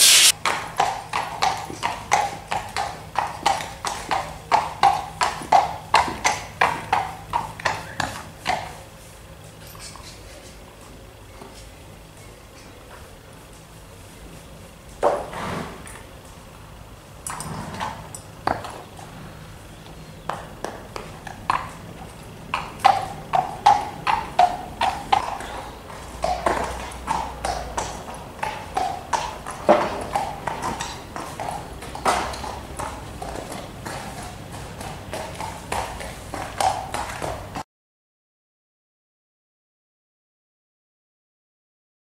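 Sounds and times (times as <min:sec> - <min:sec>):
horse hooves clip-clopping on pavement: 0:00.0 - 0:11.8, 0:12.6 - 0:37.6.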